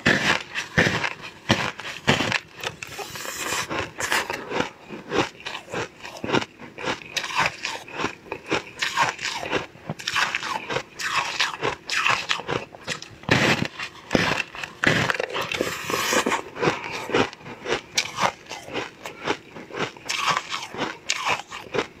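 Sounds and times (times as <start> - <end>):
crunchy bites and chewing: 0.0 - 22.0.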